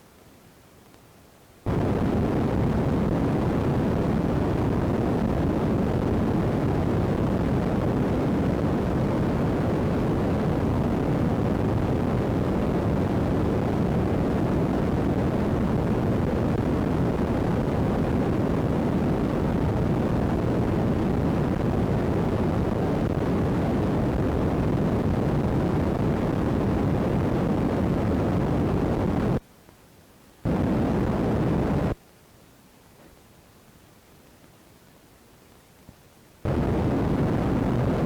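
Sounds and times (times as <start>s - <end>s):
steady rushing microphone noise: 1.6s - 29.4s, 30.4s - 32.0s, 36.4s - 38.0s.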